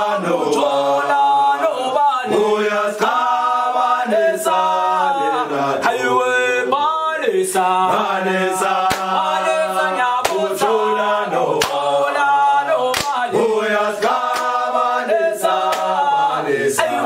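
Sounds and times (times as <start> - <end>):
group singing a cappella chant: 0.0 - 17.0.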